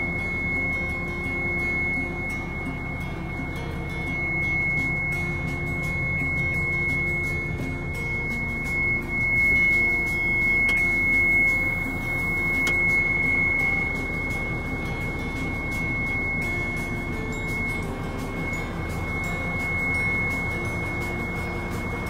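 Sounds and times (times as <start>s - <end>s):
diesel truck engine running: 0.0s - 22.0s
steady high-pitched tone: 0.0s - 22.0s.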